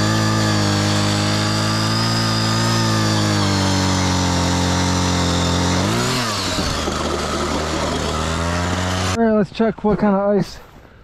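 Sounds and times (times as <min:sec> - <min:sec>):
two-stroke ice auger engine: 0:00.0 - 0:09.2.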